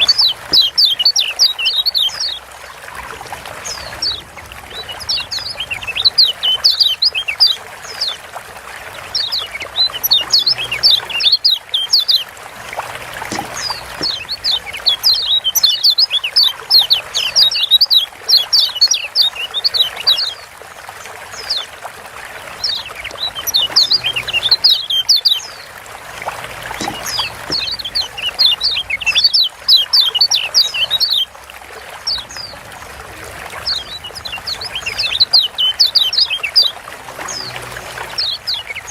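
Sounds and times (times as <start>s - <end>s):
bird chip calls: 0.0s - 2.4s, 3.6s - 8.2s, 9.0s - 20.5s, 22.6s - 31.3s, 33.6s - 38.9s.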